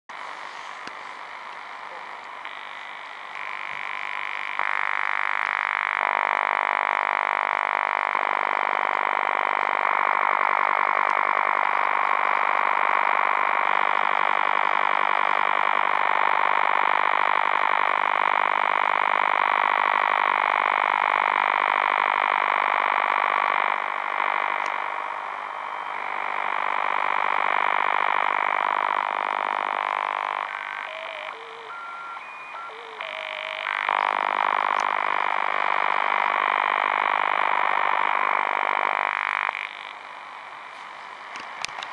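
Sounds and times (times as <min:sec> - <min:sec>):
pulsed radio buzz: 0:00.1 - 0:41.9.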